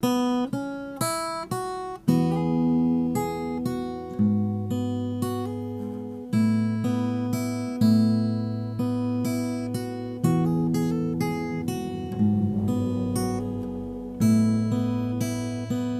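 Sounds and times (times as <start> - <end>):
acoustic guitar playing: 0.0 - 15.9.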